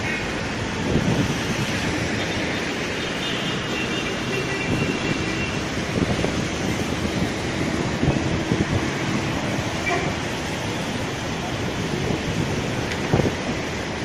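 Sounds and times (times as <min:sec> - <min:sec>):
wind on microphone: 0:00.4 - 0:03.0, 0:04.6 - 0:14.0.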